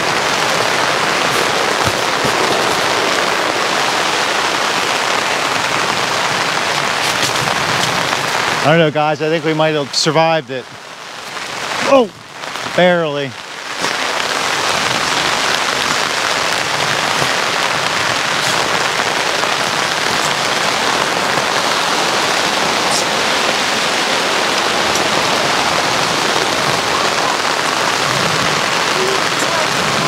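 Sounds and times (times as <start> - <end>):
heavy rain on fabric awning: 0.0 - 30.0.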